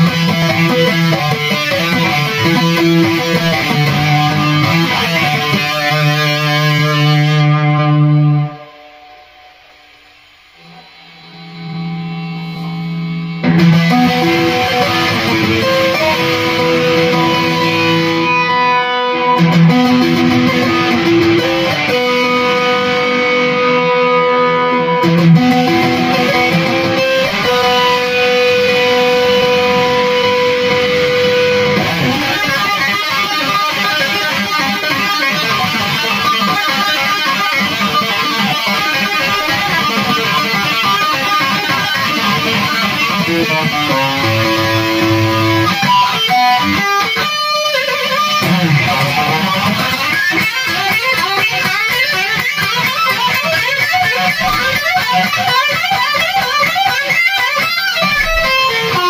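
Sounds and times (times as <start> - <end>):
electric guitar fast runs: 0.0 - 59.0.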